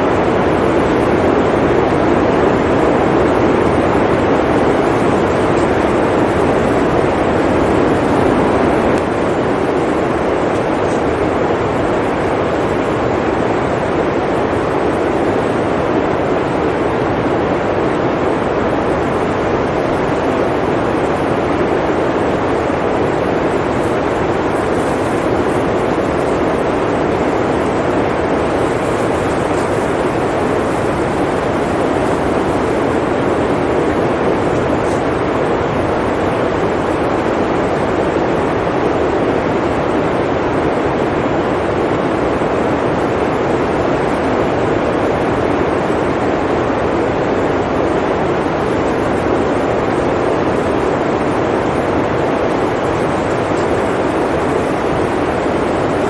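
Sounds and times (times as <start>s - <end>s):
blizzard wind blowing: 0.0s - 56.0s.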